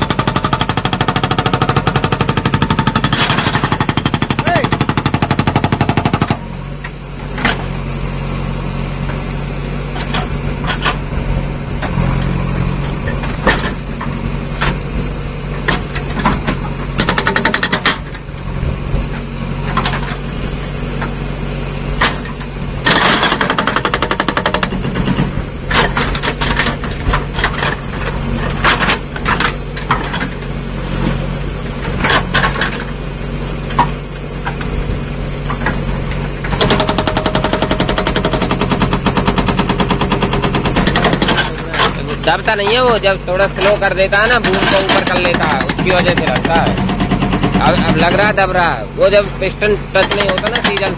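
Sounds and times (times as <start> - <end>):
hydraulic rock breaker hammering: 0.0 - 7.8, 15.5 - 21.2, 21.9 - 33.0, 33.6 - 50.9
diesel engine running: 0.0 - 50.9.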